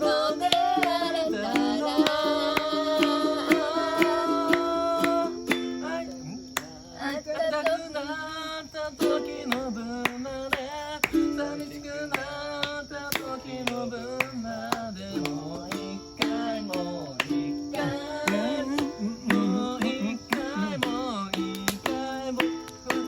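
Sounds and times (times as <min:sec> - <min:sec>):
ukulele strumming chords: 0:00.0 - 0:06.6, 0:09.0 - 0:23.0
person singing: 0:00.0 - 0:23.0.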